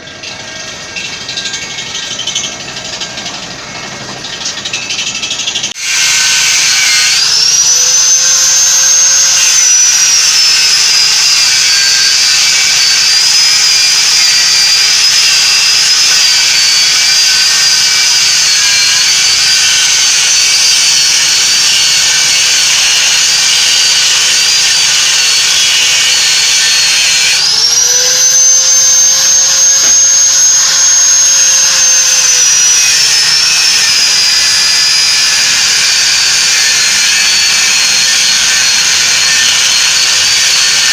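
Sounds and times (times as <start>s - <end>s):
electric grinder on steel: 0.0s - 40.9s.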